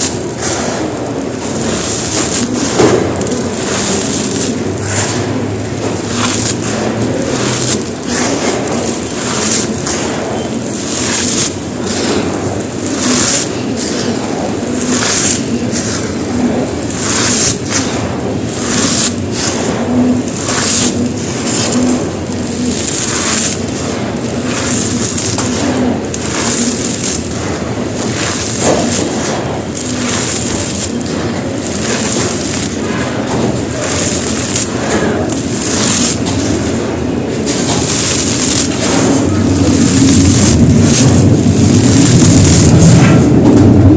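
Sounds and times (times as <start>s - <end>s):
concrete crunching: 0.0s - 43.9s
grit scraping: 0.0s - 43.9s.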